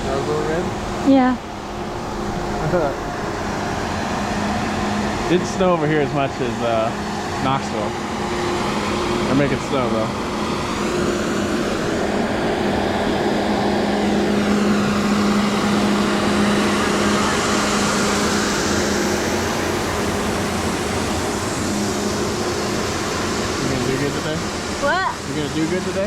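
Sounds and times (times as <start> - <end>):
snowmaking gun hissing: 0.0 - 1.3, 1.9 - 26.0
low hum: 0.0 - 26.0.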